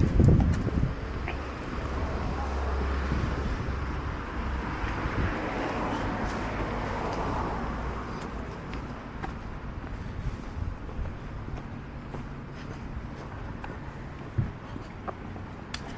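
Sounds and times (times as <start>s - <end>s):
traffic rumble: 0.0s - 15.9s
vehicle passing: 0.0s - 15.9s.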